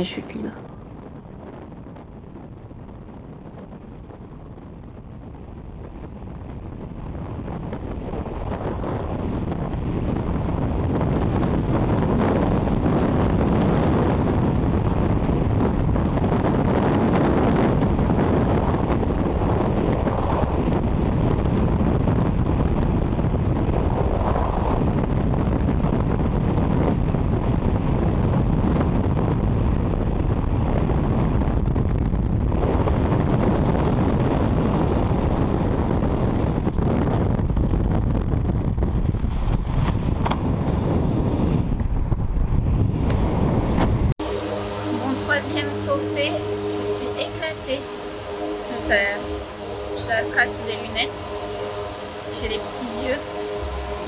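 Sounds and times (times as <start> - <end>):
wind roaring over microphone: 0.0 - 54.0.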